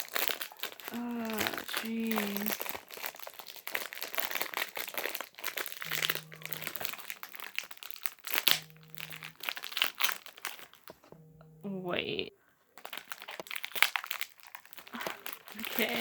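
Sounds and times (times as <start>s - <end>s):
plastic package crinkling: 0.0s - 11.1s, 12.8s - 16.0s.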